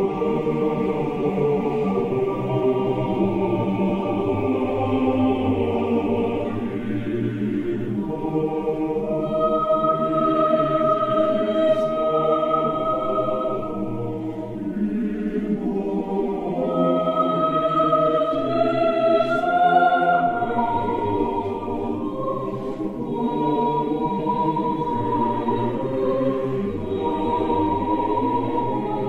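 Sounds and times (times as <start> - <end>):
choir singing slow chant: 0.0 - 29.0.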